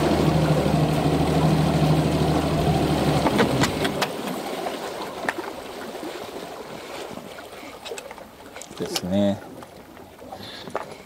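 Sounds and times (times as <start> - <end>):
outboard engine running: 0.0 - 11.0.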